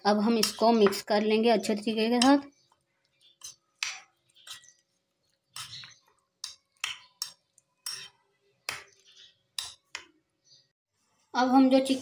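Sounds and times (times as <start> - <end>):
spoon stirring wet chicken in bowl: 0.1 - 10.7.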